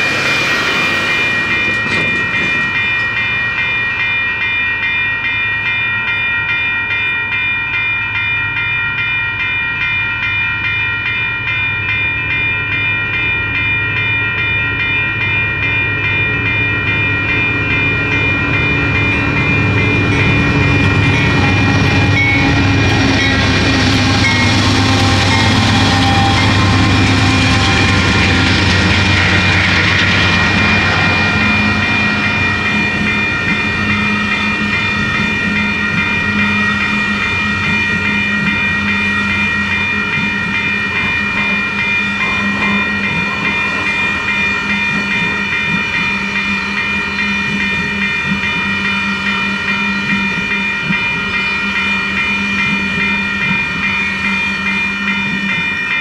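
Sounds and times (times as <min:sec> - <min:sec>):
locomotive rumble: 0:00.0 - 0:06.4, 0:15.1 - 0:56.0
crossing bell ringing: 0:00.0 - 0:56.0
train wheels on rails: 0:00.0 - 0:56.0.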